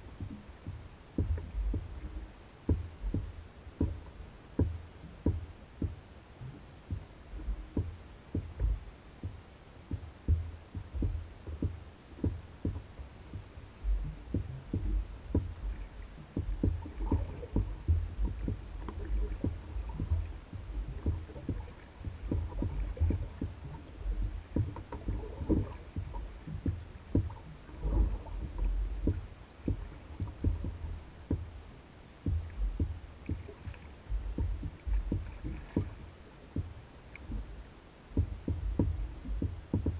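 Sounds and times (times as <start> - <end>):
small waves lapping against canoe hull: 0.0 - 39.9.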